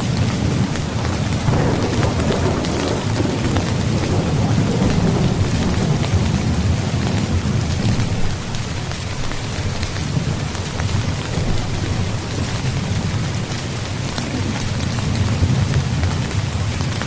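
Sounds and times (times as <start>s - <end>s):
low rolling thunder: 0.0s - 17.0s
rain falling on a tent: 0.0s - 17.0s.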